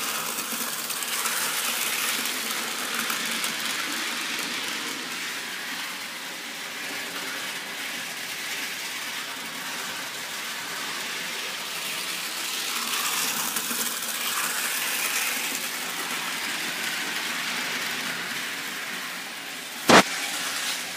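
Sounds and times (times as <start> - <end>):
model train whirring on track: 0.0 - 20.9.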